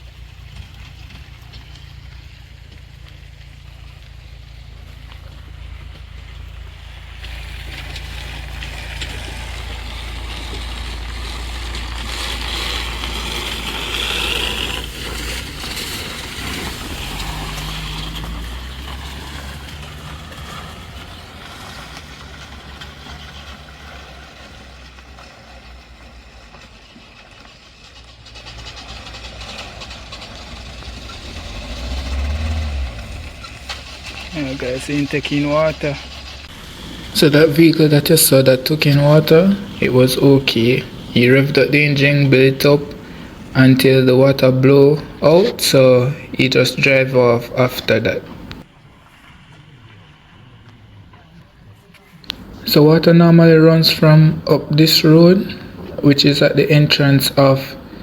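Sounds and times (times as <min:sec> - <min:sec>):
water rushing hiss: 0:00.0 - 0:26.4, 0:28.3 - 0:50.6
vehicle engine running: 0:00.0 - 0:58.0.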